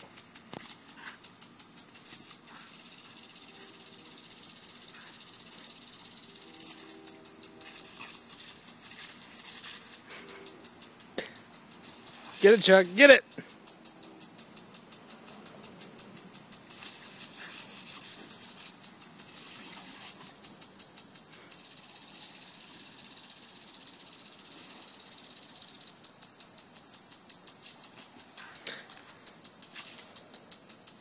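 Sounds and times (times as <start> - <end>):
lawn sprinkler ticking hiss: 0.0 - 31.0.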